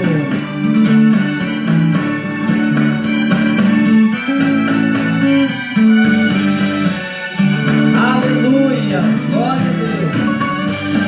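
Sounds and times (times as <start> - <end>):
gospel band playing: 0.0 - 11.0
organ holding chords: 0.0 - 11.0.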